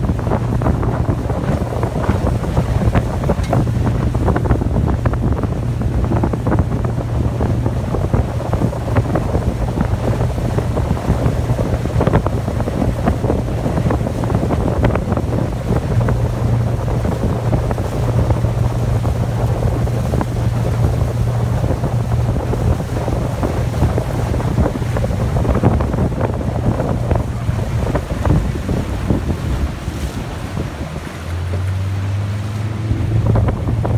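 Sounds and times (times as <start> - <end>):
outboard motor running: 0.0 - 33.9
water rushing past hull: 0.0 - 33.9
wind buffeting microphone: 0.0 - 33.9.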